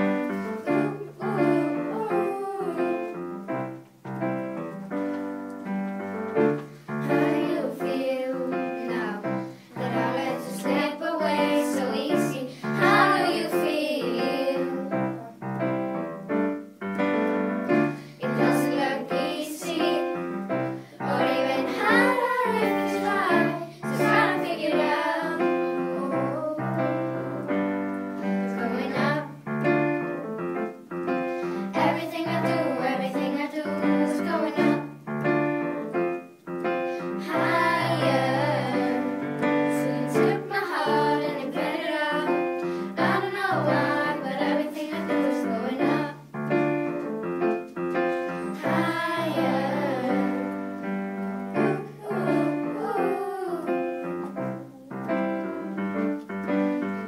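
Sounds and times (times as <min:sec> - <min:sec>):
girls singing in unison: 0:00.0 - 0:03.8, 0:06.3 - 0:15.9, 0:17.6 - 0:47.4, 0:48.0 - 0:57.0
piano: 0:00.0 - 0:57.0.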